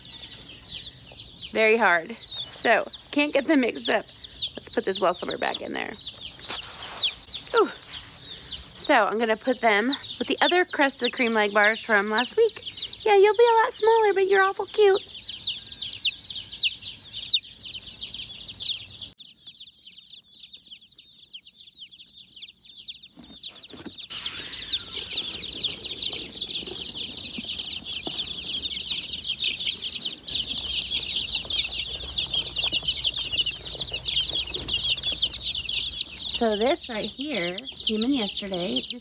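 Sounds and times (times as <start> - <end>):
baby chicks peeping: 0.0 - 39.0.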